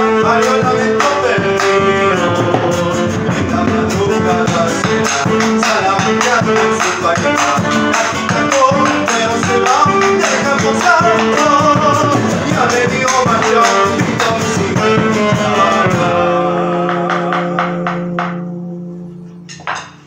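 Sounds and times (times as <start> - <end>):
bass drum beats: 0.0 - 18.4
saxophone melody: 0.0 - 19.6
strummed acoustic guitar: 0.0 - 20.0.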